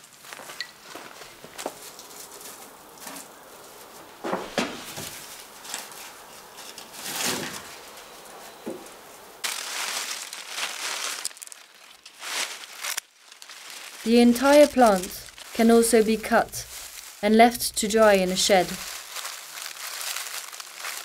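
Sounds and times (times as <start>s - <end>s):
corn plant leaves rustling: 0.0s - 21.0s
dry corn husks rustling: 0.0s - 21.0s.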